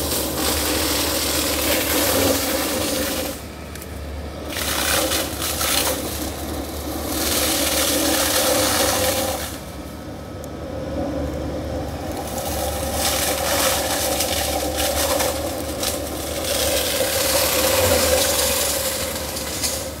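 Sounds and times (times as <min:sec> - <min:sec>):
excavator mulcher shredding bamboo: 0:00.0 - 0:20.0.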